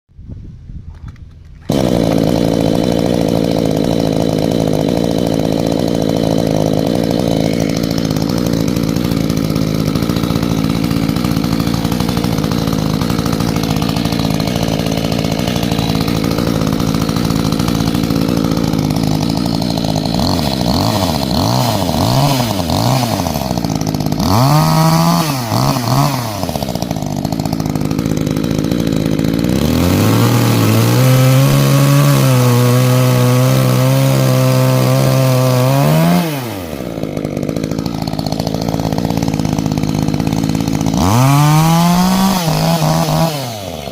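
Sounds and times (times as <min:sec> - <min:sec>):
chainsaw engine running and revving: 0:01.6 - 0:43.9.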